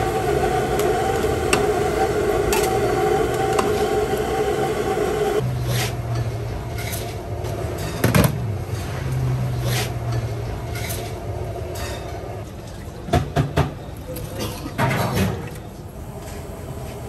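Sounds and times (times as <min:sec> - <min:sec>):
low mechanical hum: 0:00.0 - 0:13.2, 0:15.1 - 0:17.0.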